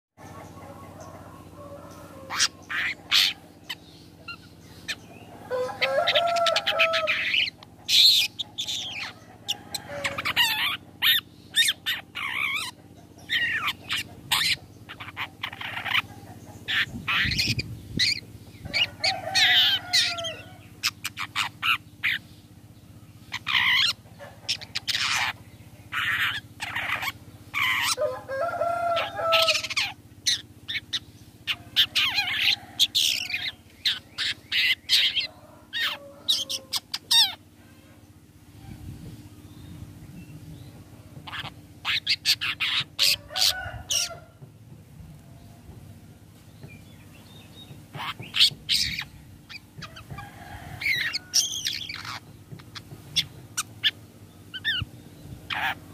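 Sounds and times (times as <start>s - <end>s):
bird chattering: 0.2s - 55.9s
bird harsh calls: 0.2s - 55.9s.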